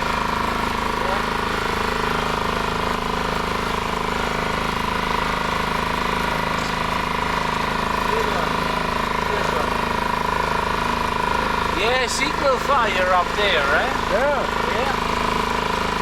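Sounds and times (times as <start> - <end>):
small outboard motor running: 0.0 - 16.0.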